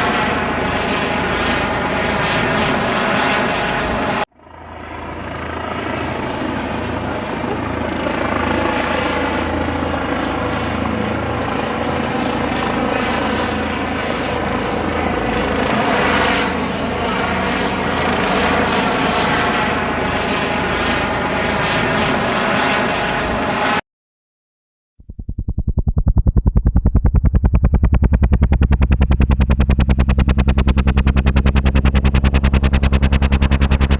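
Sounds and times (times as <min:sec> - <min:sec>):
helicopter engine and rotor: 0:00.0 - 0:23.8, 0:25.1 - 0:33.9.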